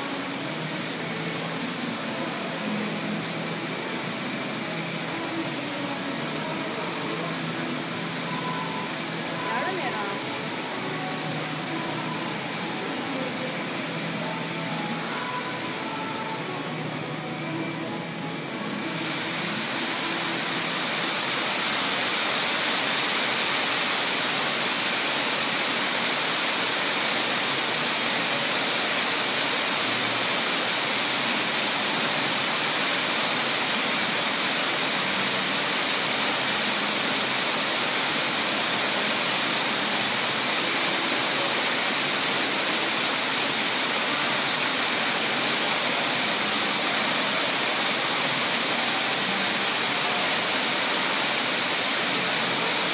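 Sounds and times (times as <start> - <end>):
fountain jets splashing: 0.0 - 52.9.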